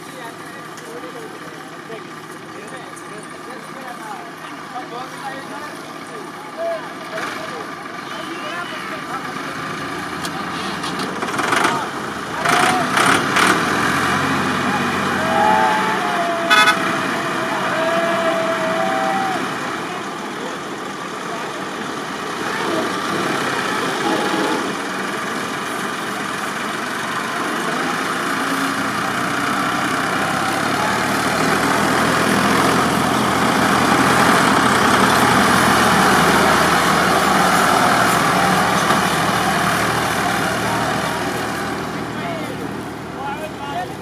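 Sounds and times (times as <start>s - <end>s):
diesel tractor engines under load: 0.0s - 44.0s.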